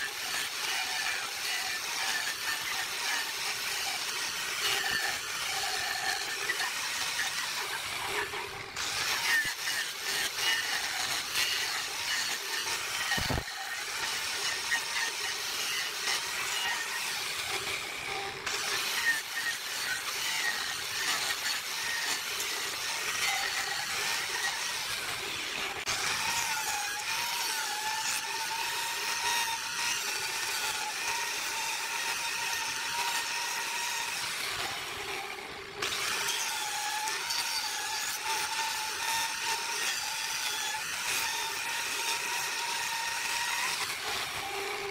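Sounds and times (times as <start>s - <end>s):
angle grinder motor whine: 0.0s - 44.9s
disc grinding wood rasp: 0.0s - 44.9s.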